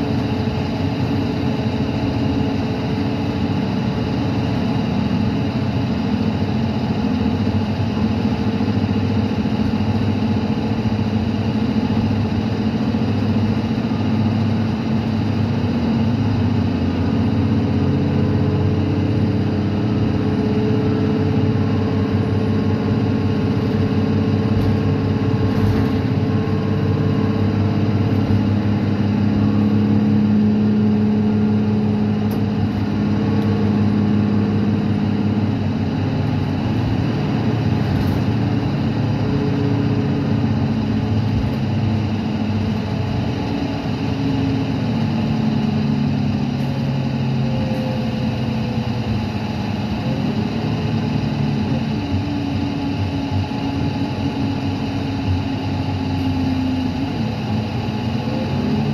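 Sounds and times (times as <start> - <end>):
bus diesel engine running: 0.0 - 58.9
road noise: 0.0 - 58.9.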